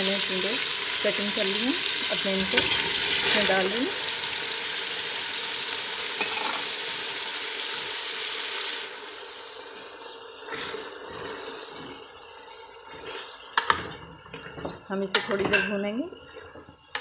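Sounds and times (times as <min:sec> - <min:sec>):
vegetables sizzling in a pot: 0:00.0 - 0:17.0.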